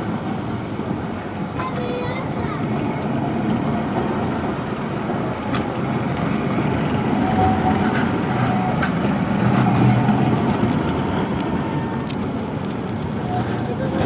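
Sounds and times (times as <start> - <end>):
tram rolling on rails: 0.0 - 14.0.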